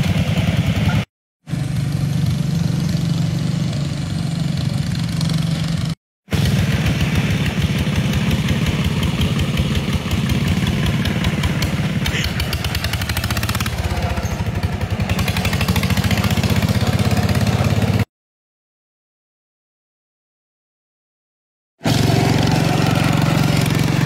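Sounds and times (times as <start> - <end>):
tractor engine chugging: 0.0 - 18.0, 21.9 - 24.0.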